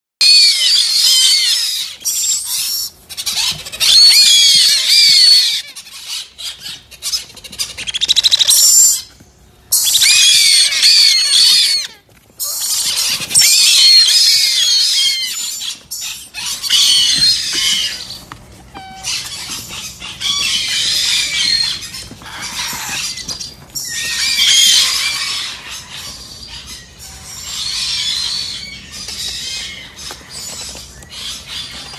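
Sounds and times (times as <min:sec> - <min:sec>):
parrot chicks begging calls: 0:00.2 - 0:31.9.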